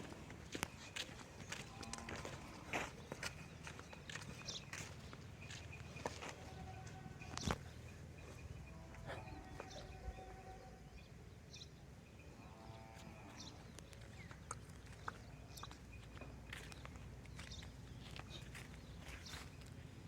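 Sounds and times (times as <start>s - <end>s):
faint farm animal calls: 0.0s - 20.0s.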